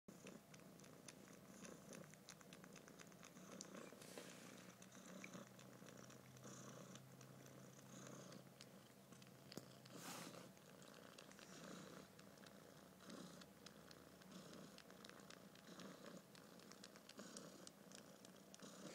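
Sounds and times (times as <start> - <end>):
kitten purring: 0.1 - 18.9.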